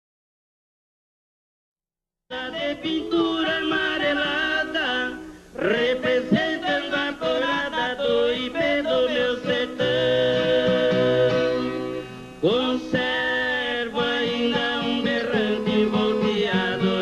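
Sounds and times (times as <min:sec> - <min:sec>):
men singing in harmony: 0:02.3 - 0:11.7, 0:12.4 - 0:17.0.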